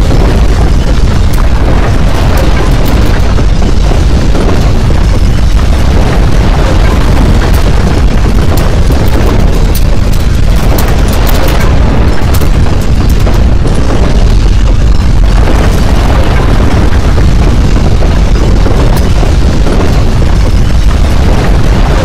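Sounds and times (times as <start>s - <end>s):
crackles and rattles: 0.0s - 22.0s
earthquake deep rumble: 0.0s - 22.0s.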